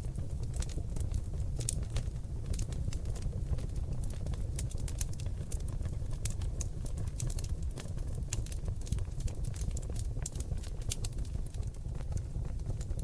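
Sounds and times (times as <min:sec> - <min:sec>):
logs crackling and popping: 0:00.0 - 0:13.0
low rumble of flame: 0:00.0 - 0:13.0.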